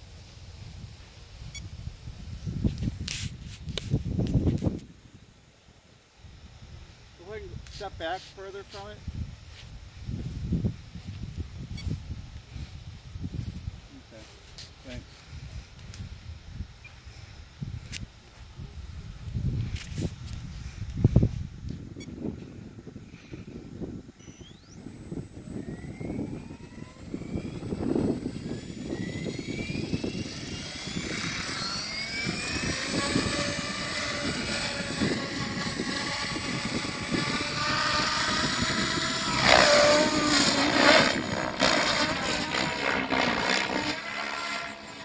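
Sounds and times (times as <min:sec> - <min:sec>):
model helicopter rotor whine: 0:03.7 - 0:45.0.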